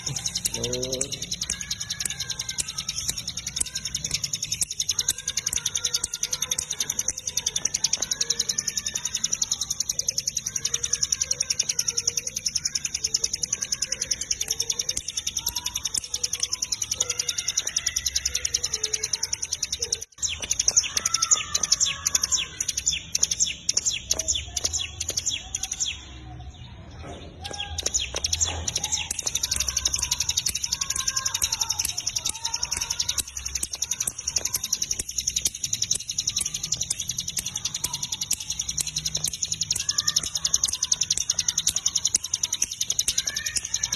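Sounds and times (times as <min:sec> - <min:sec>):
bird high repeated chirps: 0:00.0 - 0:43.9.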